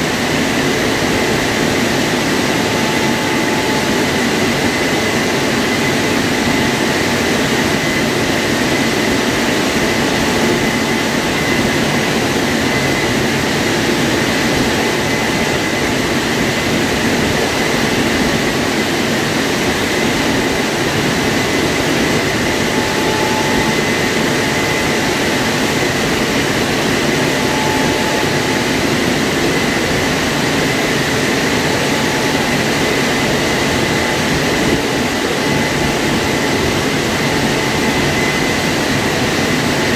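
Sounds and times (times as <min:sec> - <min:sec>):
car wash rushing with whine: 0:00.0 - 0:39.9.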